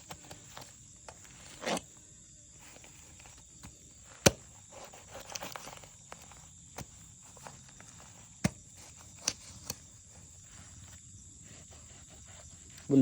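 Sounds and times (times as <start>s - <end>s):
faint rustling and crackling: 0.0s - 13.0s.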